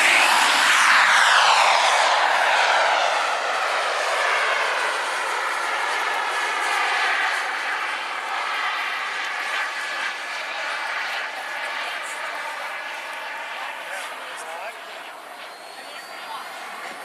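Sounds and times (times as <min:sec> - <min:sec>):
small jet turbine whine: 0:00.0 - 0:17.0.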